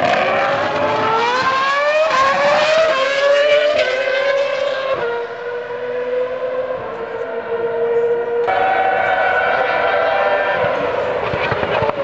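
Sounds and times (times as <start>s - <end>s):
racing car engine accelerating: 0.0s - 12.0s.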